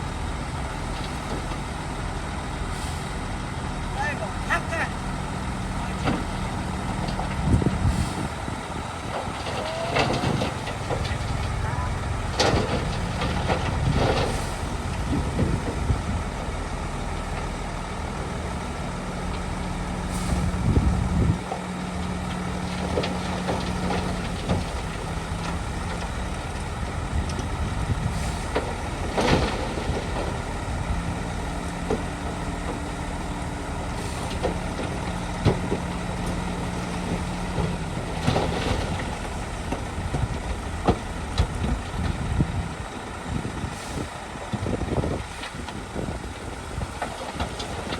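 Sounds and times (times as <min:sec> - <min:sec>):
diesel machinery engine running: 0:00.0 - 0:47.9.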